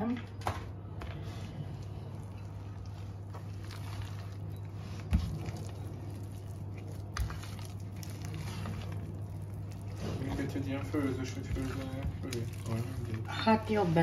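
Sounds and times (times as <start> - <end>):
steady low hum: 0.0 - 14.0
spoon stirring thick filling: 1.2 - 14.0.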